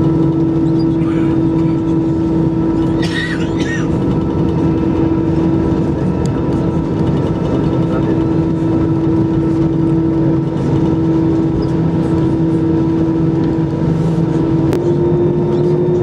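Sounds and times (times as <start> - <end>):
aircraft cabin engine hum: 0.0 - 16.0.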